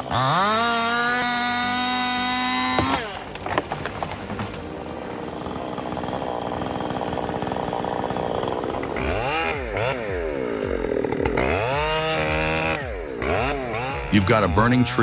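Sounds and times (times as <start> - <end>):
chainsaw running and revving: 0.0 - 15.0.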